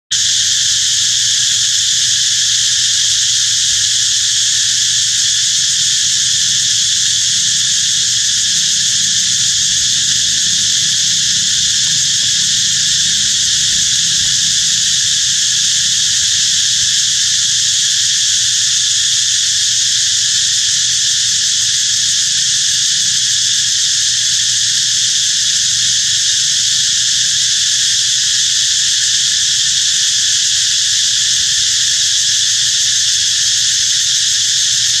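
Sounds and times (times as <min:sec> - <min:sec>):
insects buzzing shrilly: 0:00.1 - 0:35.0.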